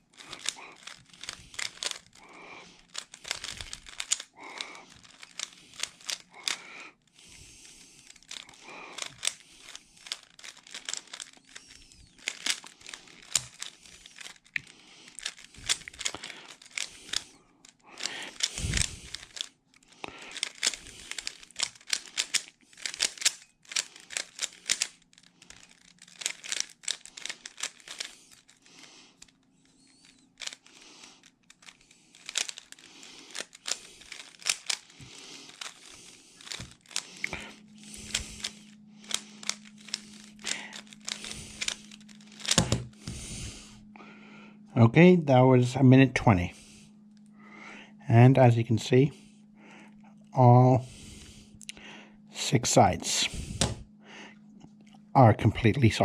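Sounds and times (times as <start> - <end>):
puzzle cube plastic clicks: 0.0 - 43.8, 52.4 - 53.8.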